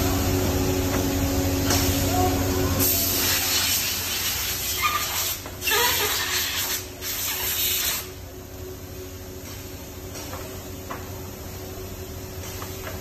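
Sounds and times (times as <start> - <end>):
low machine hum: 0.0 - 13.0
machine venting air hiss: 0.0 - 13.0.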